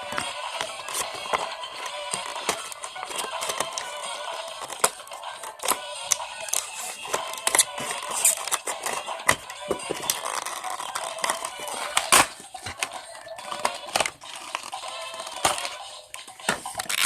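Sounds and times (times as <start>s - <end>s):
packaging clicks and crinkles: 0.0s - 15.8s, 16.4s - 17.0s.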